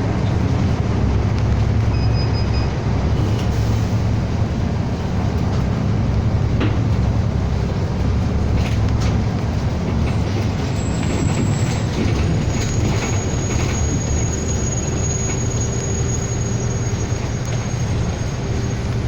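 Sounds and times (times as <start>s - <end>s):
bus engine drone: 0.0s - 19.0s
road noise: 0.0s - 19.0s.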